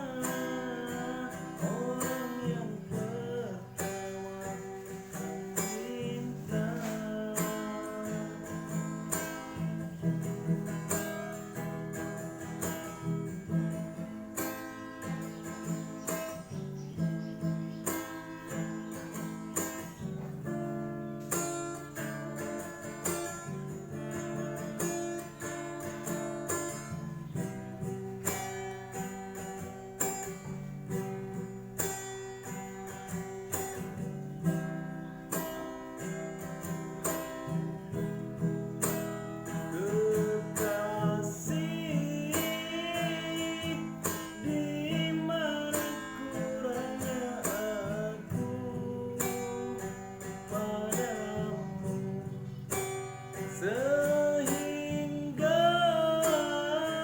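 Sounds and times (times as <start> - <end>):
acoustic guitar strumming chords: 0.0 - 57.0.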